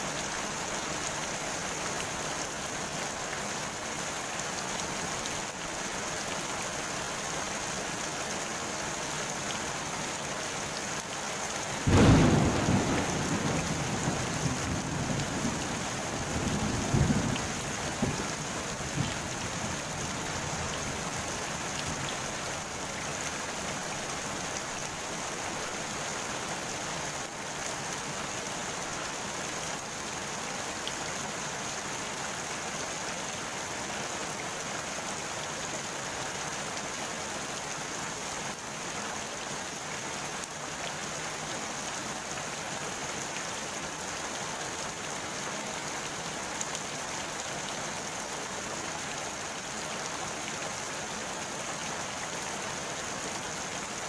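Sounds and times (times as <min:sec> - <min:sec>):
rain pattering on pond water: 0:00.0 - 0:54.0.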